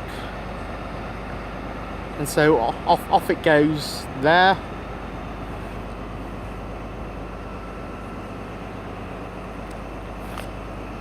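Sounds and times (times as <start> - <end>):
diesel train engines droning: 0.0 - 11.0.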